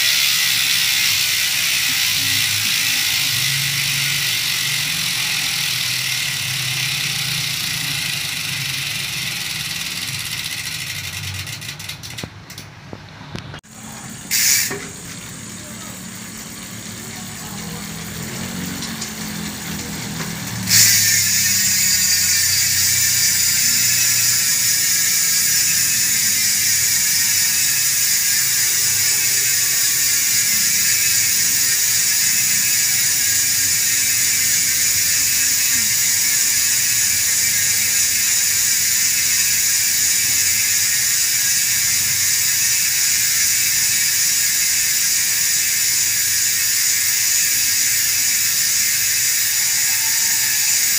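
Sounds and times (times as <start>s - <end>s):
bicycle hub freewheeling buzz: 0.0s - 50.9s.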